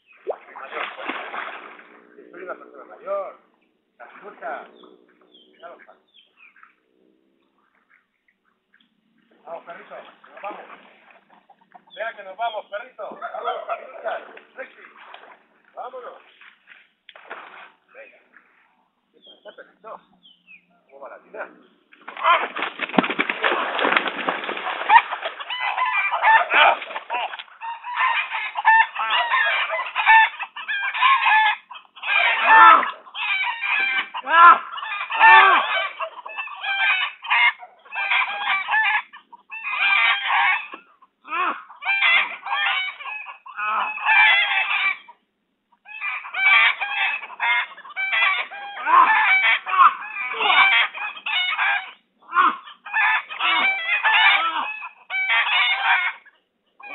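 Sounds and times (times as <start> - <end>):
chickens clucking and squawking: 0.0 - 16.4, 17.2 - 56.9.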